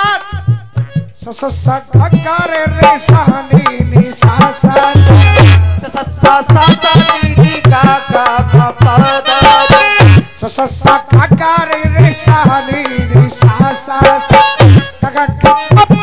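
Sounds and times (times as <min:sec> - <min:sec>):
hand drum fast rhythm: 0:00.1 - 0:16.0.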